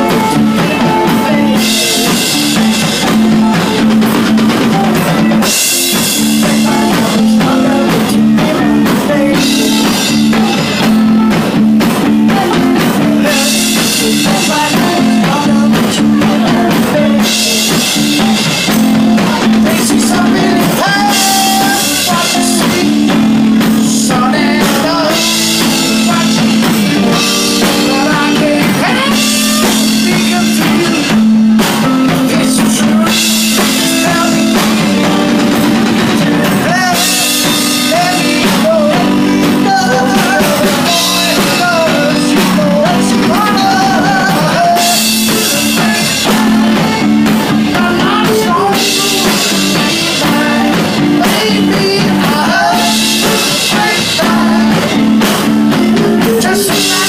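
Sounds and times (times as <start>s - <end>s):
drum kit: 0.0s - 57.0s
electric guitar: 0.0s - 57.0s
man singing into a microphone: 0.0s - 57.0s.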